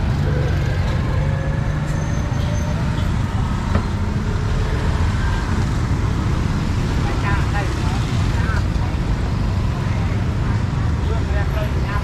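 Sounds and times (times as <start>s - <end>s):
motorbike and car traffic rumble: 0.0s - 12.0s.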